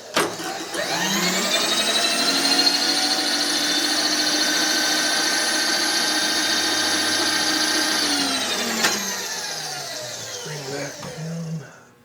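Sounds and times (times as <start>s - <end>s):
milling machine spindle whine: 0.4s - 11.6s.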